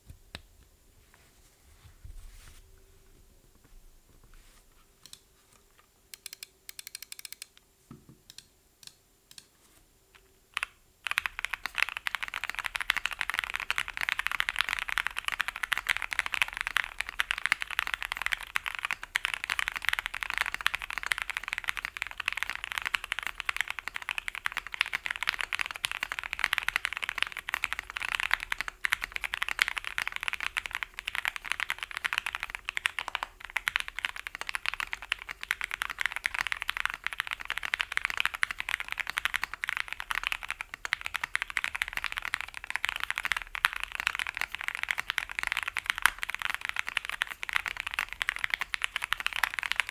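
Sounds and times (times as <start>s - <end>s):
typing on mechanical keyboard: 6.2s - 7.6s, 10.6s - 49.9s.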